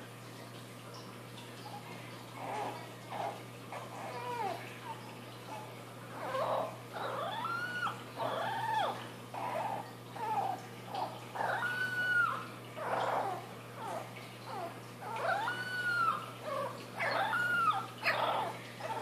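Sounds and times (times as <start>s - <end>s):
puppy yelping and howling: 2.4s - 4.7s, 5.5s - 19.0s.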